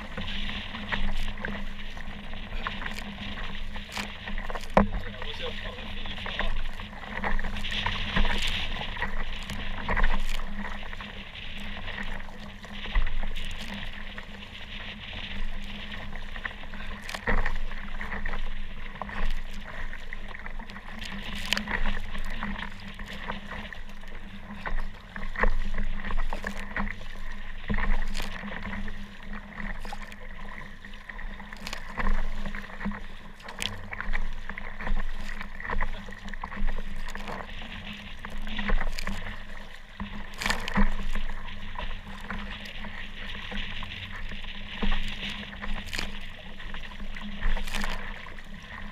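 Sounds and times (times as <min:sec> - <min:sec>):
paddle strokes: 0:00.0 - 0:48.9
waves splashing against hull: 0:00.0 - 0:48.9.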